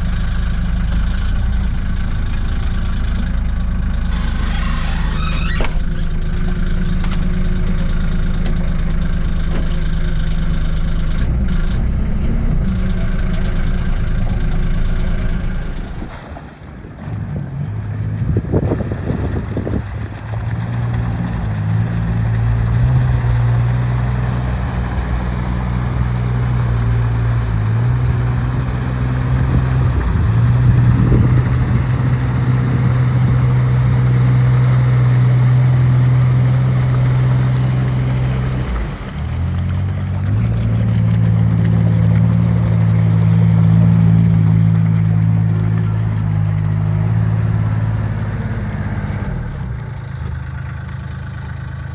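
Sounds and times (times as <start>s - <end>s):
vehicle engine running under load: 0.0s - 51.9s.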